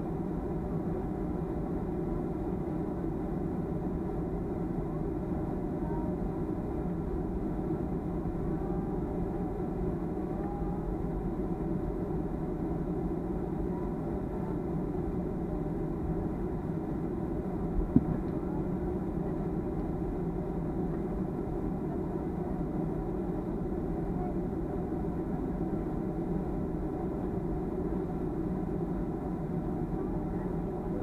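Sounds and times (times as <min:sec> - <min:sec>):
jet engine drone in cabin: 0:00.0 - 0:31.0.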